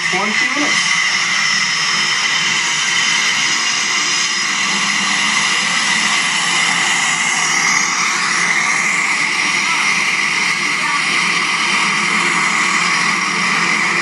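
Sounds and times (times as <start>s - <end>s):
turboprop engines through speaker: 0.0s - 14.0s.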